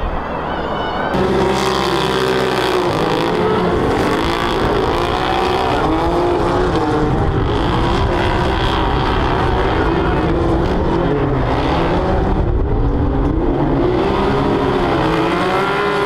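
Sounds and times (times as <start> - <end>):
buggy engines revving: 1.1 - 16.0.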